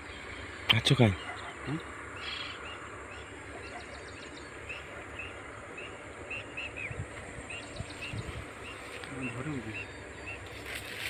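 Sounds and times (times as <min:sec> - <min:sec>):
low steady rumble: 0:00.0 - 0:11.0
small birds chirping: 0:00.0 - 0:11.0.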